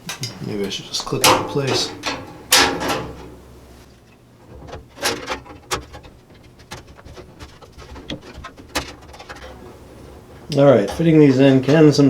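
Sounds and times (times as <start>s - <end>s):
metal panel clicks and scrapes: 1.0s - 12.0s.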